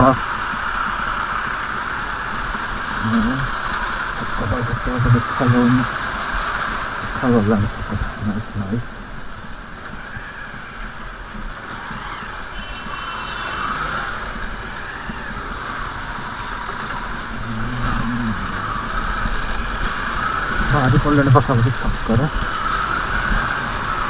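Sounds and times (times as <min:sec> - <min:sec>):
vehicle driving on rough road: 0:00.0 - 0:24.0.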